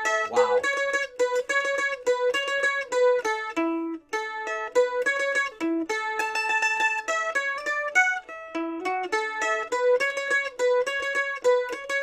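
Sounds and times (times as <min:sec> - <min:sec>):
mandolin picked melody: 0:00.0 - 0:12.0.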